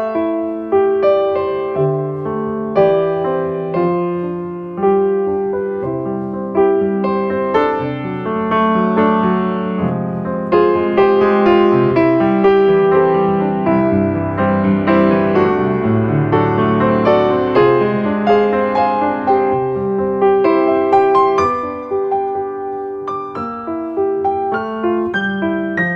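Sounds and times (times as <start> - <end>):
slow piano melody: 0.0 - 25.9.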